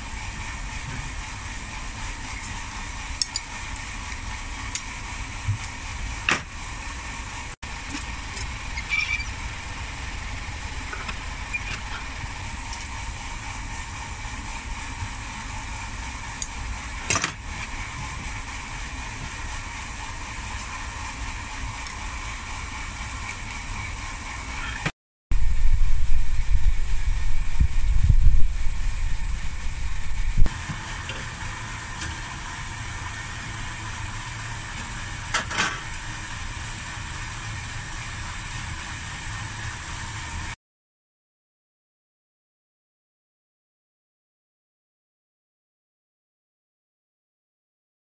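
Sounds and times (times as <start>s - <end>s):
furnace burners roaring: 0.0s - 40.6s.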